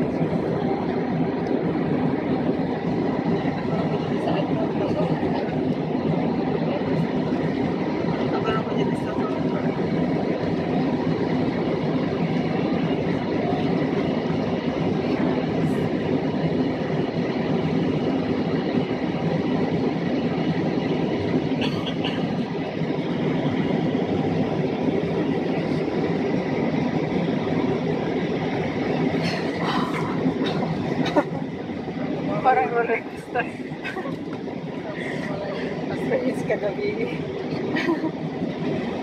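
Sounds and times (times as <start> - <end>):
airliner engines droning: 0.0 - 39.0
rushing air: 0.0 - 39.0.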